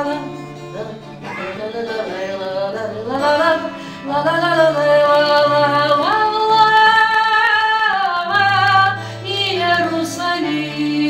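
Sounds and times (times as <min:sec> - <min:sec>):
acoustic guitar: 0:00.0 - 0:11.0
woman singing: 0:00.0 - 0:11.0.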